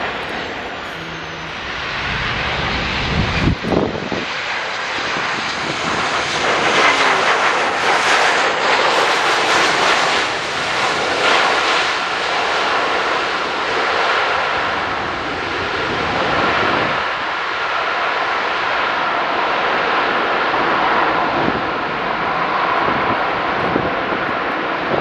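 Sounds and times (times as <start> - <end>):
jet engines roaring with whine: 0.0 - 25.0.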